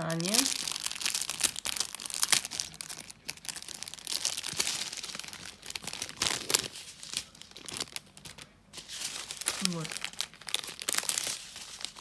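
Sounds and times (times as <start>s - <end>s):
plastic packet rustling and crinkling: 0.0s - 12.0s.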